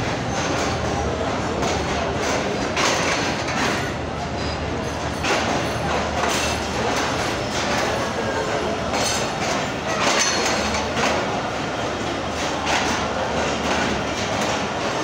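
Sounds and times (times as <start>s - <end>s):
train wheels clacking over rail joints: 0.0s - 15.0s.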